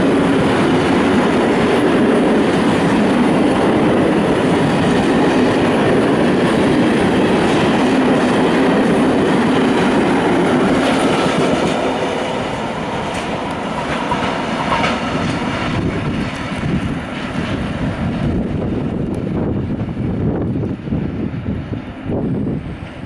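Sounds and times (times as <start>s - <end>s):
wheels clattering over rail joints: 0.0s - 19.2s
freight train passing: 0.0s - 23.0s.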